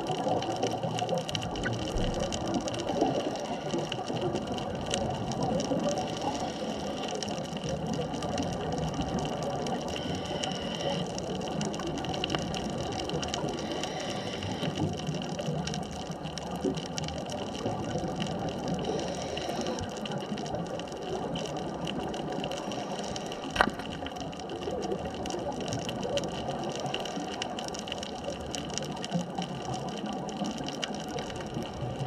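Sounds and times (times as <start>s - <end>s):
faint crackling clicks: 0.0s - 32.0s
underwater hiss and hum: 0.0s - 32.0s.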